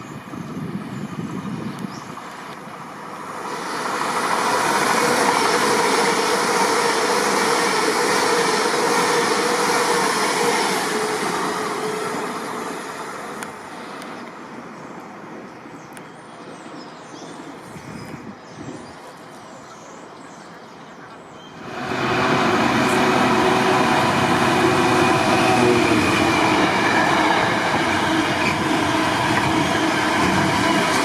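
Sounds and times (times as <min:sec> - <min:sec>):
train passing: 0:00.0 - 0:15.8, 0:21.4 - 0:31.0.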